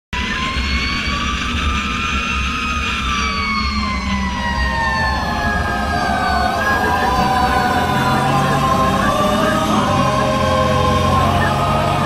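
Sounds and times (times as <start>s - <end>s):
fire truck siren: 0.2s - 12.0s
road noise: 0.2s - 12.0s
truck engine rumble: 0.2s - 12.0s.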